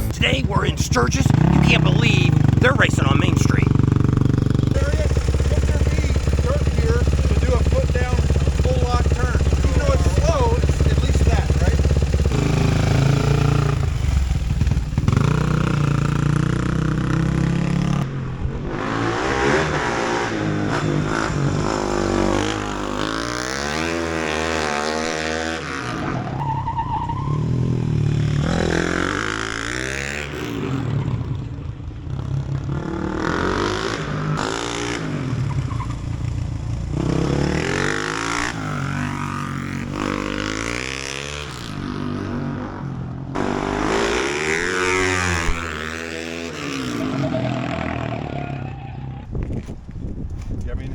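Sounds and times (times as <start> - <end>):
motorcycle engine revving: 0.0 - 49.7.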